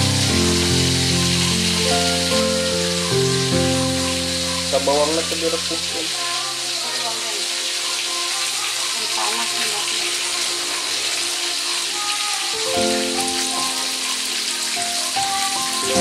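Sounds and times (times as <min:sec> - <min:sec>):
background music with held notes: 0:00.0 - 0:16.0
spice paste sizzling in hot oil: 0:00.0 - 0:16.0.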